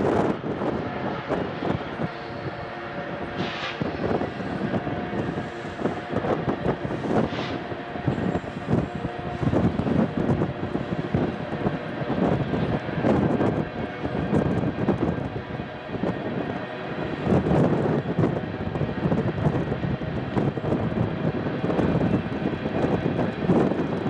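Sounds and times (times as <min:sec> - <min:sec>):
high-pitched train squeals: 0:00.0 - 0:19.4
distant freight train rumble: 0:00.0 - 0:24.0.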